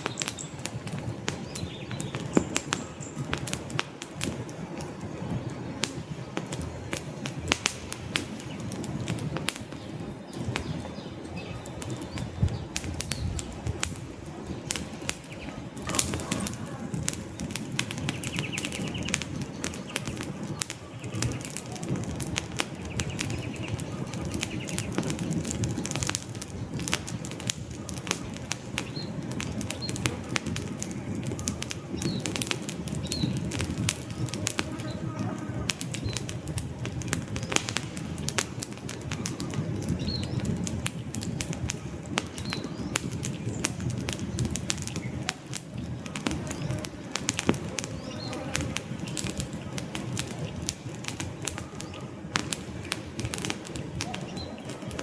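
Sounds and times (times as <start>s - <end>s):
log fire crackling: 0.0s - 55.0s.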